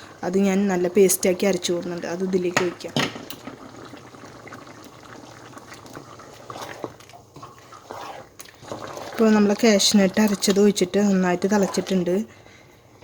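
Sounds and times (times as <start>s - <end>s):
stew bubbling in a pot: 0.0s - 12.4s.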